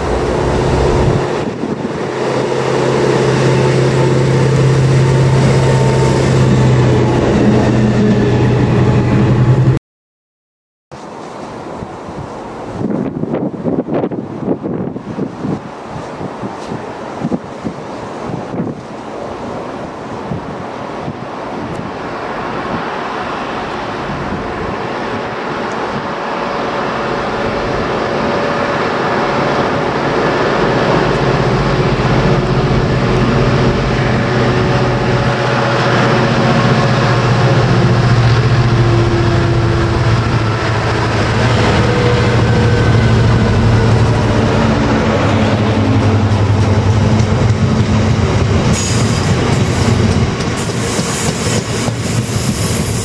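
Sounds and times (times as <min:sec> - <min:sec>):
diesel locomotive passing: 0:00.0 - 0:09.8, 0:11.0 - 0:53.0.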